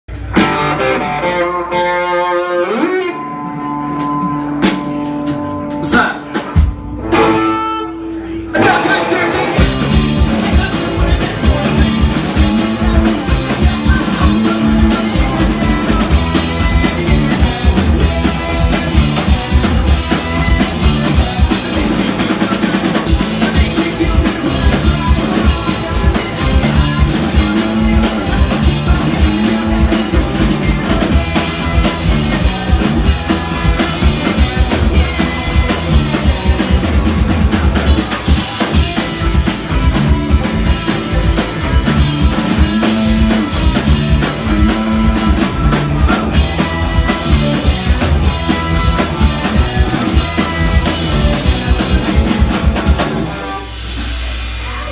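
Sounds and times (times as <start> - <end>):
loud drum kit beat: 0.0 - 1.8, 3.8 - 7.6, 8.6 - 54.9
rock band playing live: 0.1 - 54.9.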